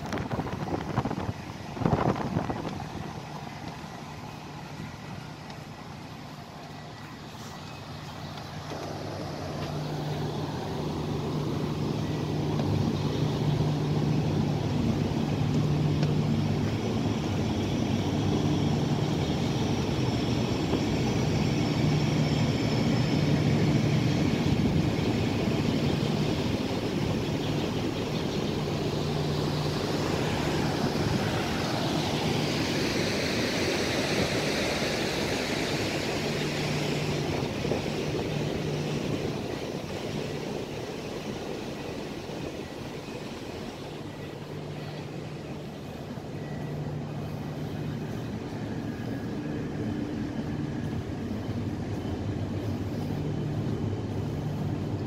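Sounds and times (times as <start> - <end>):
ventilation fans humming: 0.0 - 55.0.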